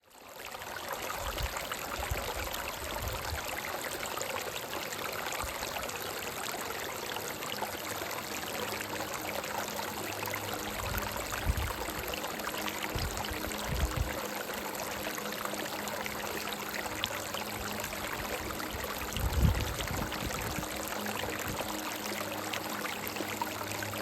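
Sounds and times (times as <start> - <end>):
soft background music: 0.1 - 24.0
stream rushing and splashing: 0.3 - 24.0.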